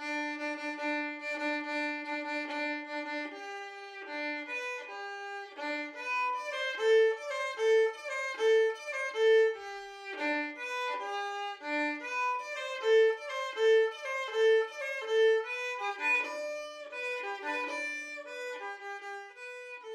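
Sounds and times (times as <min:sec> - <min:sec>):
solo violin melody: 0:00.0 - 0:19.9.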